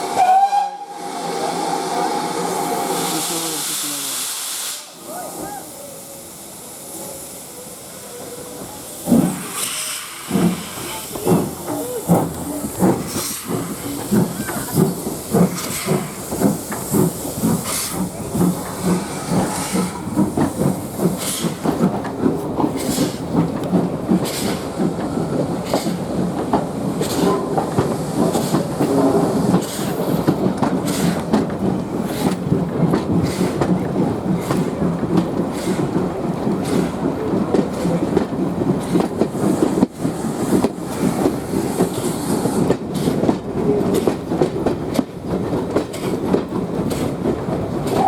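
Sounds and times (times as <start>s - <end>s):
steam locomotive chuffing: 0.0s - 48.0s.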